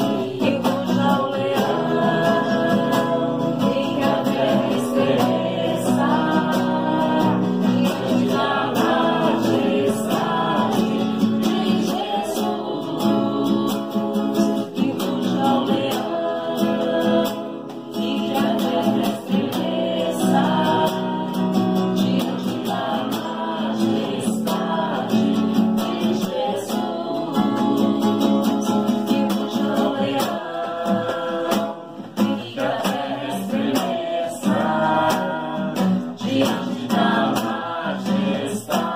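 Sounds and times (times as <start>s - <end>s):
group singing worship song: 0.0s - 38.9s
guitar accompaniment: 0.0s - 38.9s.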